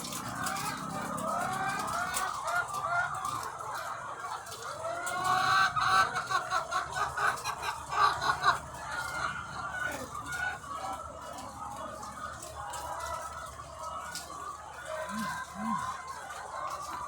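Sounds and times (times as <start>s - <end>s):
hens clucking and squawking: 0.0s - 17.0s.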